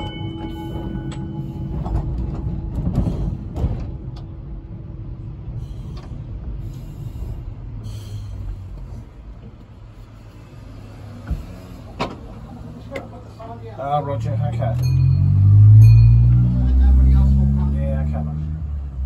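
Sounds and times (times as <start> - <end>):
electric tram rumbling: 0.0 - 19.0.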